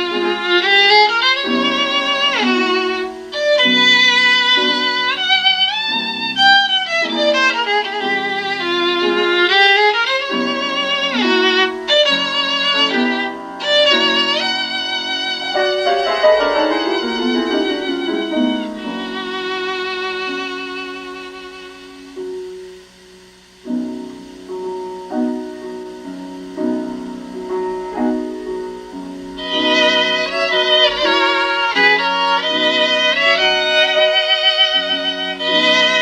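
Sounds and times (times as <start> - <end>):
violin music over loudspeaker: 0.0 - 22.6, 28.0 - 36.0.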